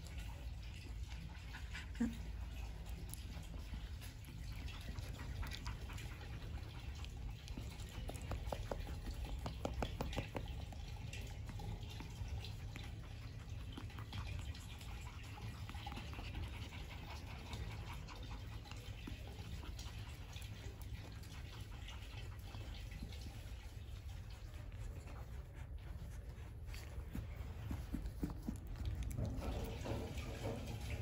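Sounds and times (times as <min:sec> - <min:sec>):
puppies scuffling: 0:00.0 - 0:31.0.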